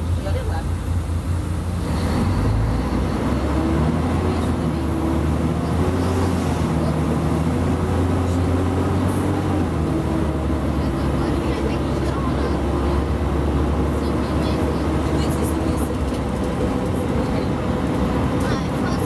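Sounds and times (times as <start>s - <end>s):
bus diesel engine humming: 0.0s - 19.0s.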